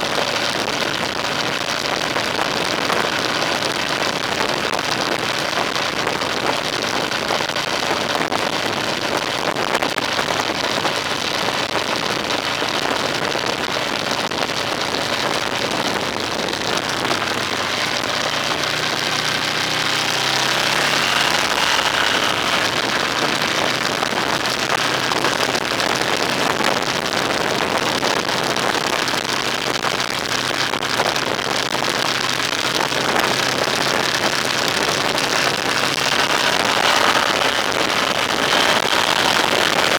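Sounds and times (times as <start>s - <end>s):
vehicle engine: 0.0s - 39.9s
wind and road noise: 0.0s - 39.9s.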